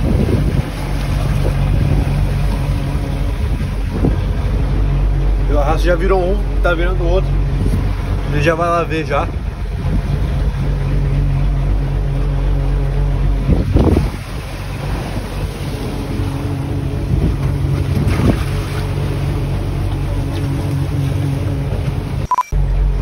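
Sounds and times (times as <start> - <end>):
wind buffeting microphone: 0.0 - 5.7, 7.3 - 11.8, 13.1 - 22.0
boat engine running: 0.0 - 23.0
waves washing along hull: 0.0 - 23.0.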